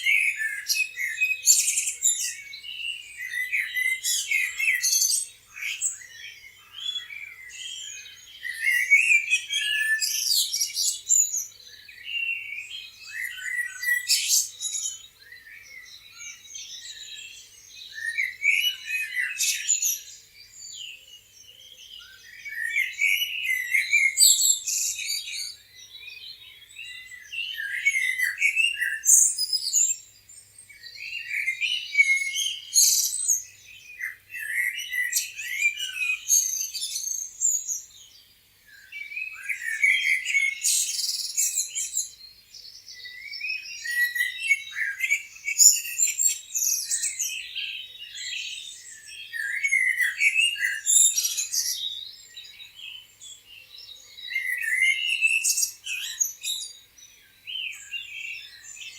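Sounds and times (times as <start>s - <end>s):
songbirds chirping and singing: 0.0s - 58.9s.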